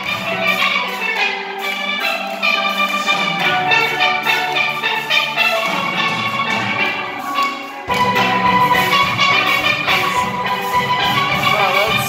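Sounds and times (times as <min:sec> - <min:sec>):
steel band playing: 0:00.0 - 0:12.0.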